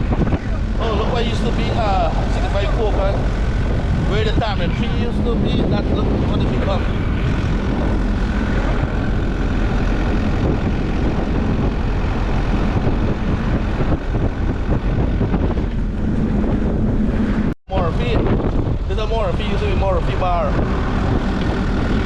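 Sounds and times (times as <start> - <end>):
vehicle road and wind noise: 0.0 - 22.0.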